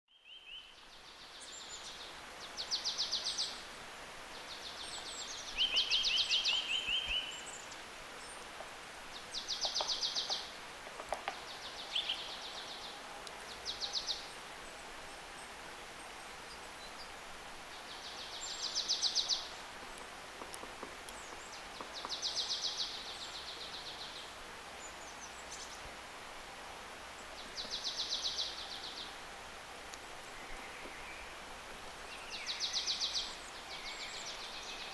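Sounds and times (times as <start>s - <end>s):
steady background hiss: 0.1s - 34.9s.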